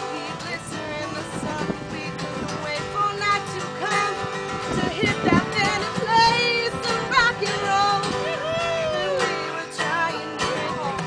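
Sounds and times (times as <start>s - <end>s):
acoustic guitars strumming: 0.0s - 11.0s
woman singing: 0.0s - 11.0s.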